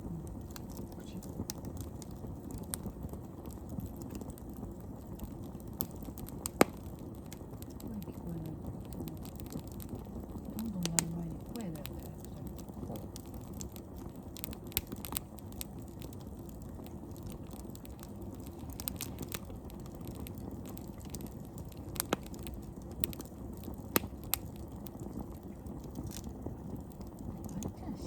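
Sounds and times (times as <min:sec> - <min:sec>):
campfire crackling: 0:00.0 - 0:28.0
fire popping: 0:00.0 - 0:28.0.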